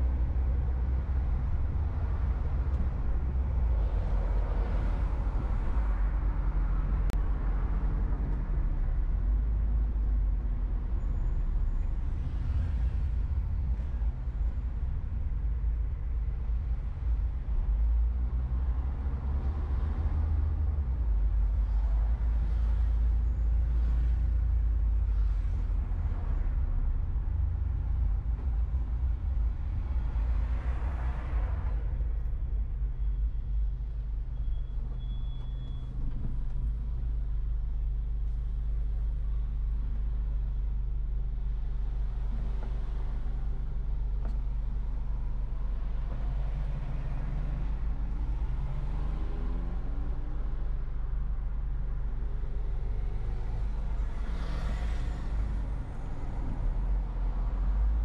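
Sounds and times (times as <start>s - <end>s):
low road rumble: 0.0s - 58.0s
vehicles passing: 0.0s - 58.0s.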